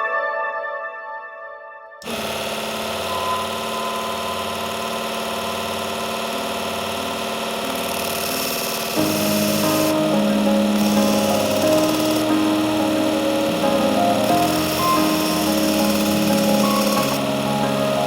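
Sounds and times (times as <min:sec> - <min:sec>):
electric power tool running: 0:02.0 - 0:18.0.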